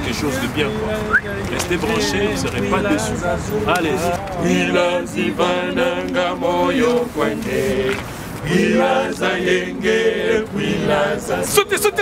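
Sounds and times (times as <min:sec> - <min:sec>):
group singing in chorus: 0:02.0 - 0:12.0.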